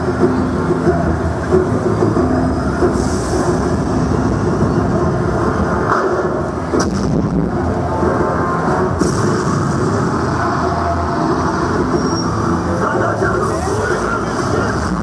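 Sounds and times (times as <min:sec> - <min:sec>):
heavy low soundtrack over speakers: 0:00.0 - 0:15.0.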